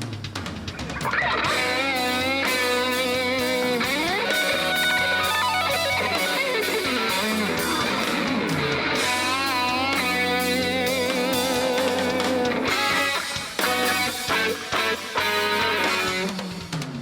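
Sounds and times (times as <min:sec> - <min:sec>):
live rock band: 0:00.0 - 0:17.0
electric guitar lead: 0:00.7 - 0:17.0.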